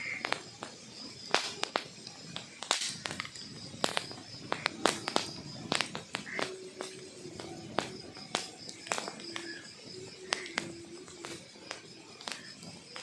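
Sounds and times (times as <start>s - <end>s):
burning logs crackling: 0.0s - 13.0s.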